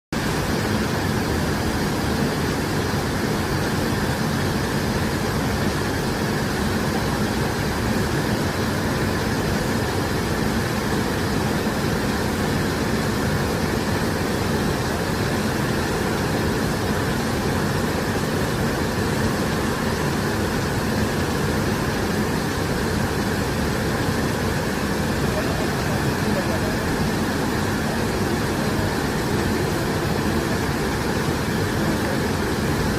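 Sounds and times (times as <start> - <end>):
waterfall rushing: 0.2 - 32.9.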